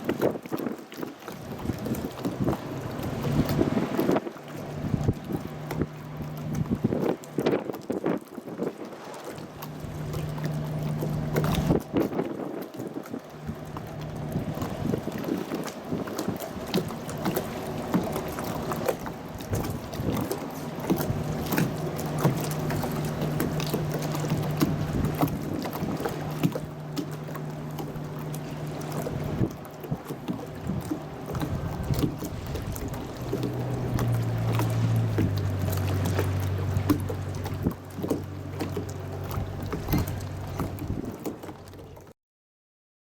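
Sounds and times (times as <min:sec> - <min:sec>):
boat engine humming: 0:00.0 - 0:42.1
water sloshing and splashing: 0:00.0 - 0:42.2.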